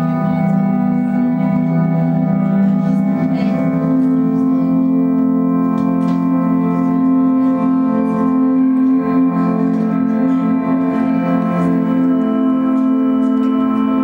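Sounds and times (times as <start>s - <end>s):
faint picked guitar notes: 0.0s - 14.0s
layered electric guitar drone: 0.0s - 14.0s.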